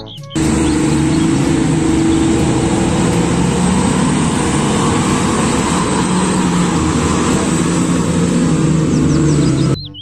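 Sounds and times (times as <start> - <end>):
dump truck diesel engine passing: 0.4 - 9.9.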